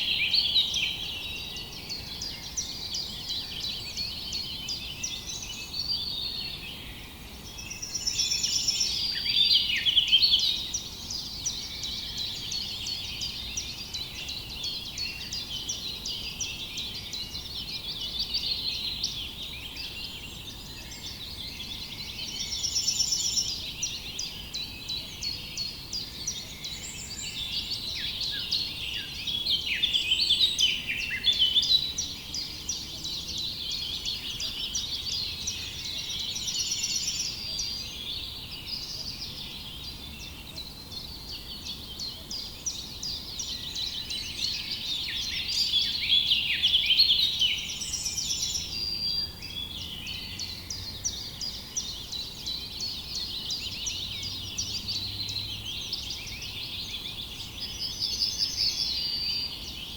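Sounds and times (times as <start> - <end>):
birds chirping in chorus: 0.0 - 59.9.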